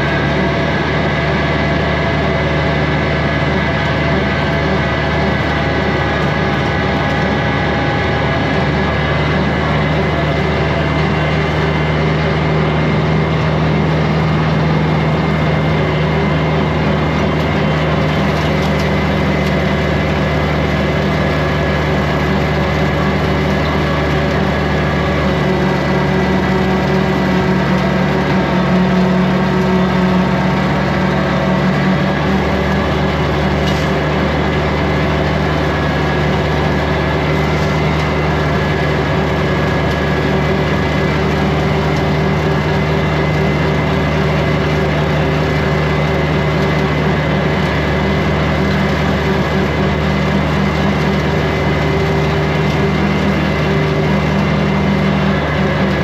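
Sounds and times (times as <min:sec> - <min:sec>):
mower blade noise: 0:00.0 - 0:56.0
tractor diesel engine running: 0:00.0 - 0:56.0.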